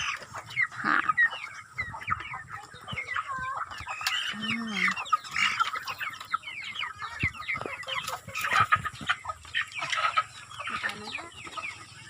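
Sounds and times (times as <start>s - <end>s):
chickens clucking and cheeping: 0.0s - 12.0s.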